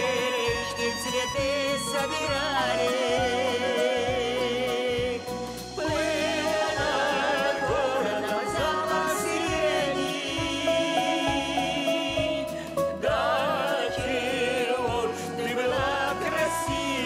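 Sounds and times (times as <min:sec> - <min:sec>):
backing band with bass beat: 0:00.0 - 0:17.0
vocal ensemble singing: 0:00.0 - 0:17.0.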